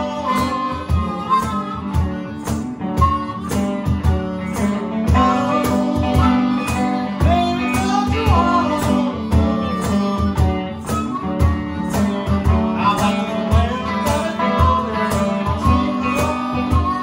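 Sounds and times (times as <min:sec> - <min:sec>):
man singing: 0:00.0 - 0:01.7, 0:04.6 - 0:17.0
cajon beat: 0:00.0 - 0:17.0
electric guitar: 0:00.0 - 0:17.0
harmonica: 0:00.0 - 0:17.0.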